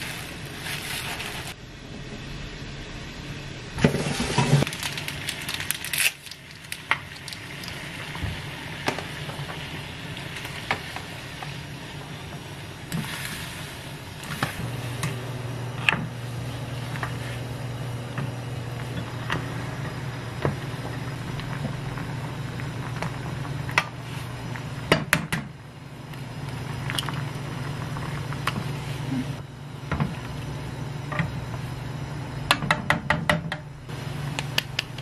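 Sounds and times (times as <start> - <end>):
water boiling in a pot: 0.0 - 33.1.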